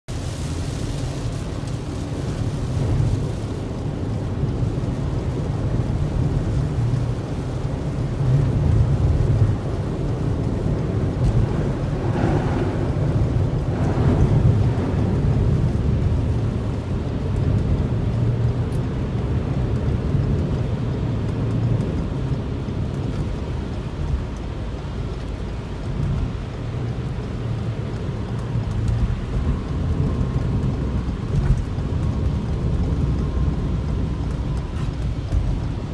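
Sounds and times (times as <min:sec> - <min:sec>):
heavy rain: 0:00.1 - 0:35.9
deep rumble: 0:00.4 - 0:35.9.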